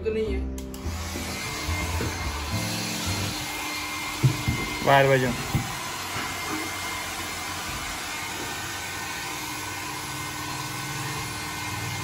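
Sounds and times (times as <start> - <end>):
hair dryer running: 0.6 - 12.0.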